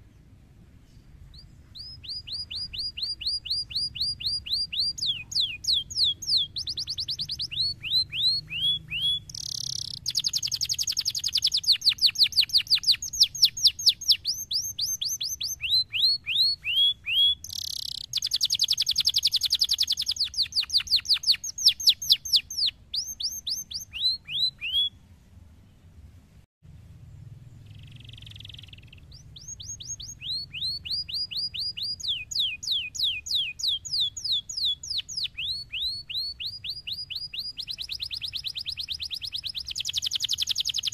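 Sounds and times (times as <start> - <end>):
canary singing: 0.9 - 25.0, 27.5 - 40.9.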